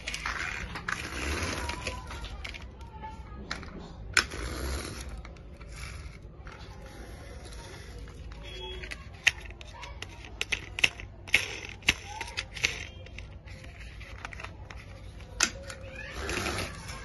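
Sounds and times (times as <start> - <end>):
plastic toy clicks and knocks: 0.0 - 17.0.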